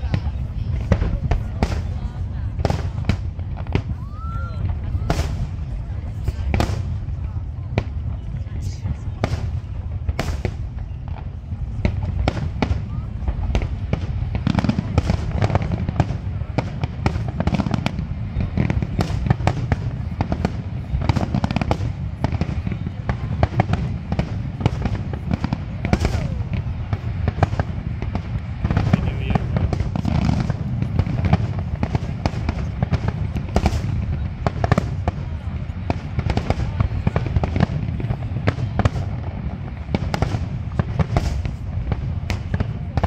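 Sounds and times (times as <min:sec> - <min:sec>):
firework cracks and crackles: 0:00.0 - 0:43.0
fireworks booming: 0:00.0 - 0:43.0.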